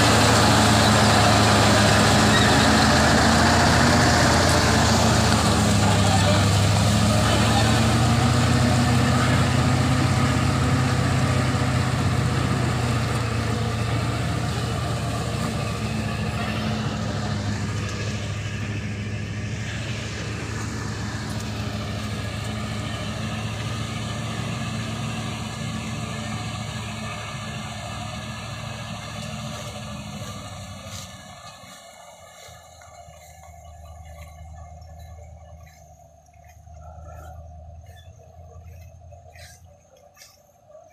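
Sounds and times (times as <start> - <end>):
truck diesel engine under load: 0.0 - 40.9.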